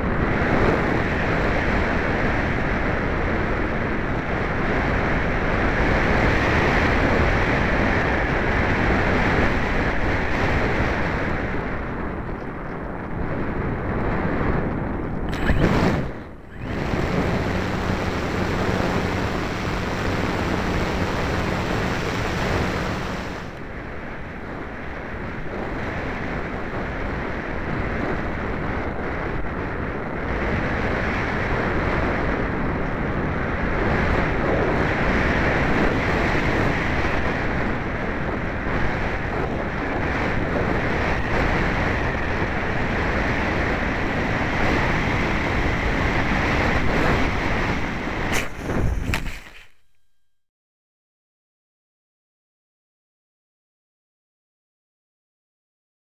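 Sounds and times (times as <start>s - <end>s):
wind noise on microphone: 0.0s - 50.0s.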